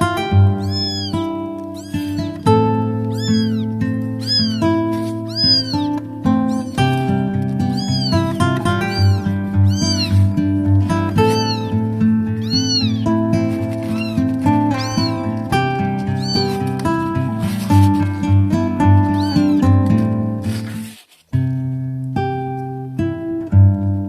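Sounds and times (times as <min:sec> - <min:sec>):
instrumental music: 0:00.0 - 0:24.0
kittens meowing: 0:00.2 - 0:19.8.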